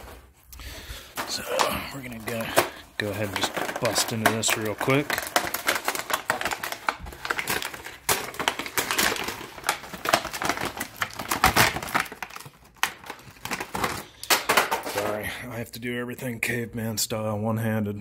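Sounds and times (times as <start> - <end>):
plastic packaging crackling: 0.6 - 15.2.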